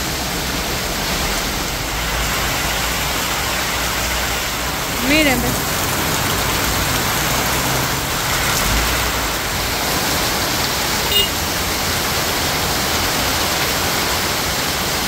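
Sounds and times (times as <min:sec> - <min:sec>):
heavy rain pouring: 0:00.0 - 0:15.0
vehicles driving on wet road: 0:00.0 - 0:15.0.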